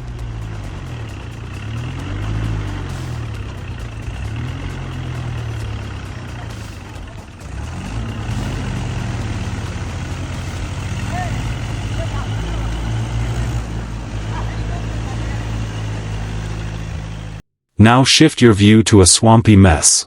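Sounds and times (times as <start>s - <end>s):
tractor engine revving: 0.0s - 17.4s.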